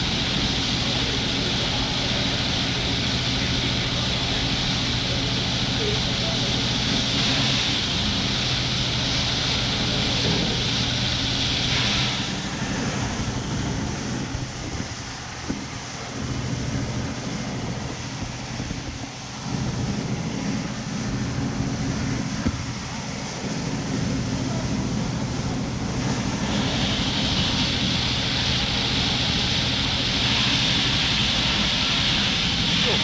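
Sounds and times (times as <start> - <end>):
hiss: 0.0 - 33.0
motorboat engine humming: 0.0 - 33.0.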